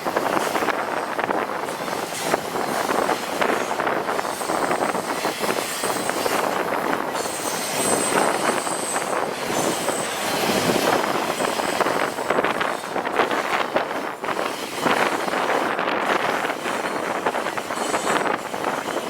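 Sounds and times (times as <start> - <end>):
freight train rumbling past: 0.0 - 19.0
wheels clattering on rails: 0.0 - 19.0.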